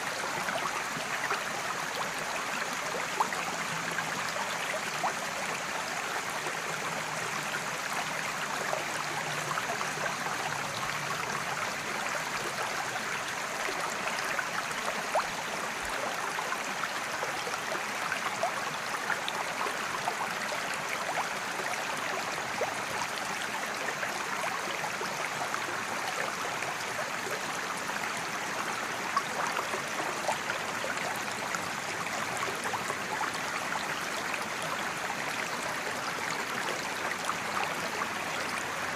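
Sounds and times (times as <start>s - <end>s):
creek running over rocks: 0.0s - 38.9s.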